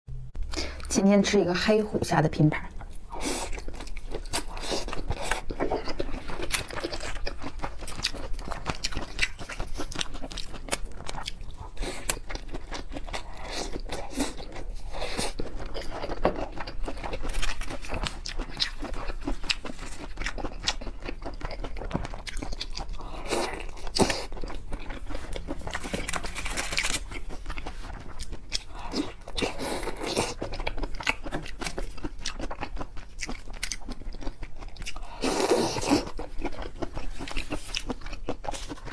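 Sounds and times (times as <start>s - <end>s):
crunching and chewing shrimp: 2.7s - 38.9s.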